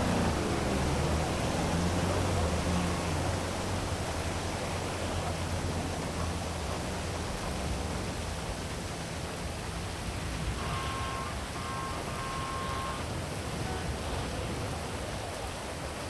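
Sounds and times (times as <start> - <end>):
heavy rain hissing: 0.0 - 14.2
low rumble of city traffic: 0.0 - 16.0.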